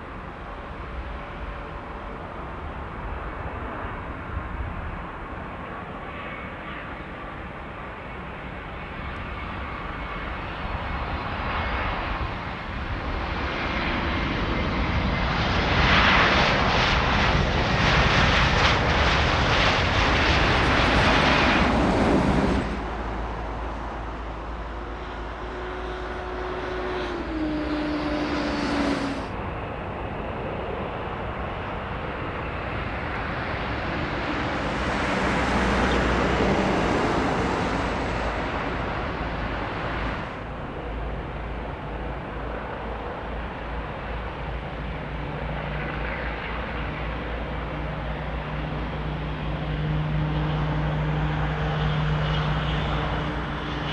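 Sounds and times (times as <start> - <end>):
jet airliner passing: 0.0 - 53.9.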